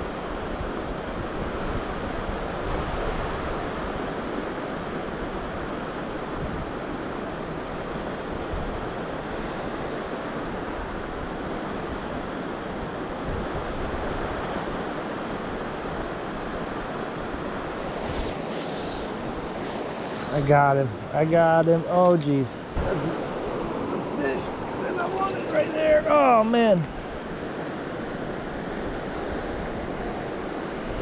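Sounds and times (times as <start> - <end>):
river flowing over boulders: 1.3 - 31.0.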